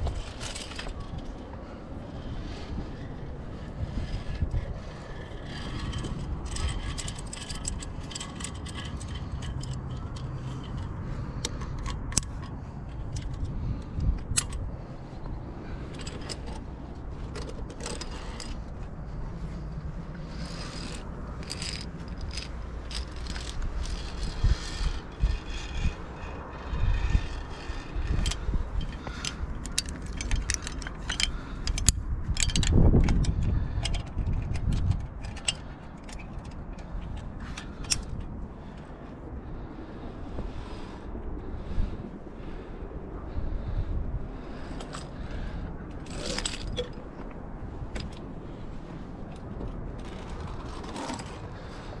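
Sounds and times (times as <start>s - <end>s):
carabiners clicking on steel cable: 0.0s - 38.8s, 44.4s - 52.0s.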